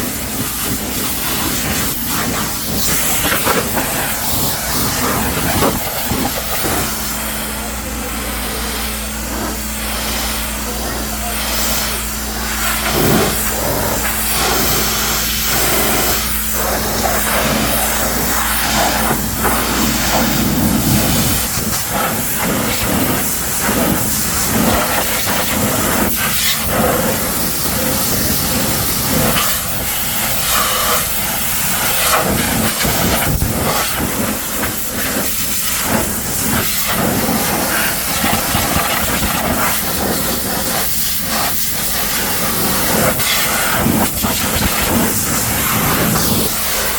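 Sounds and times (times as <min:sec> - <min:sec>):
pressure washer spraying water: 0:00.0 - 0:46.9.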